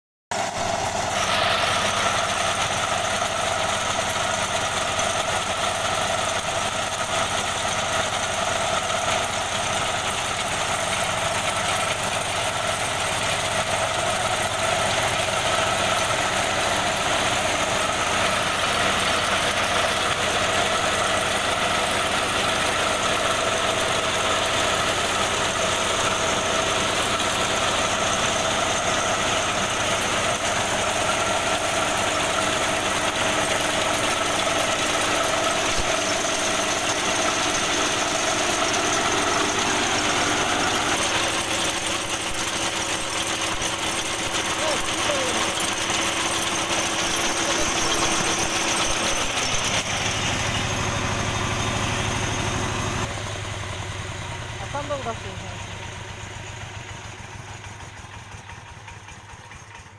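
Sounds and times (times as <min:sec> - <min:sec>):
combine harvester engine drone: 0:00.4 - 0:58.8.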